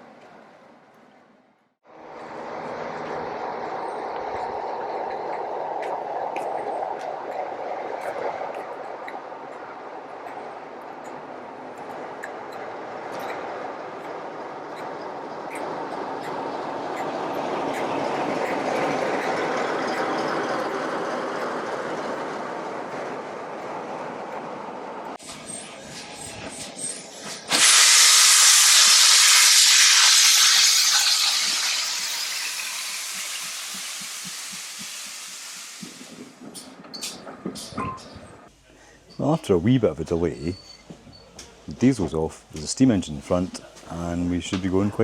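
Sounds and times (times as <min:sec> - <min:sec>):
train rumbling: 0:00.0 - 0:38.6
clicks of train: 0:03.0 - 0:38.6, 0:42.5 - 0:42.8, 0:43.5 - 0:45.0.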